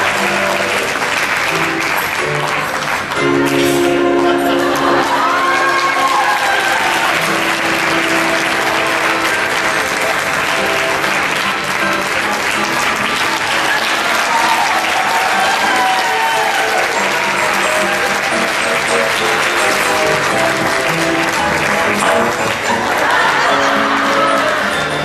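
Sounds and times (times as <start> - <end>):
audience applauding: 0.0 - 25.0
music playing: 0.0 - 25.0.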